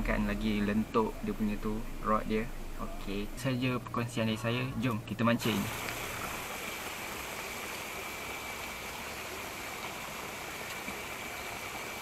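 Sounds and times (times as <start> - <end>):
steady rushing water-like noise: 0.0 - 12.0.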